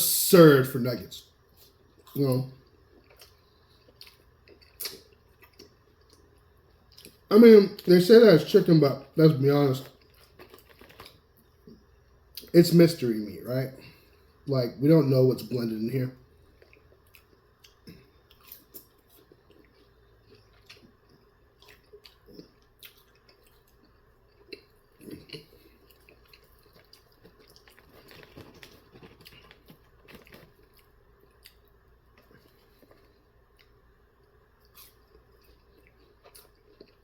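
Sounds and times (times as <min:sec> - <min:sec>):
person chewing food: 0:01.4 - 0:07.9, 0:09.8 - 0:12.5, 0:16.2 - 0:37.0.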